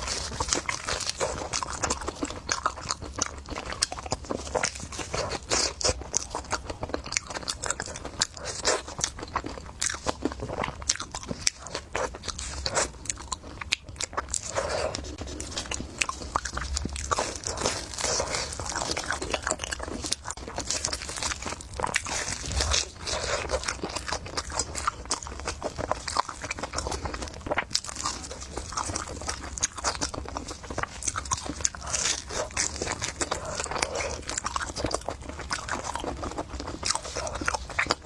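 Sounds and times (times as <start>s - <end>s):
crunching and chewing food: 0.0s - 38.0s.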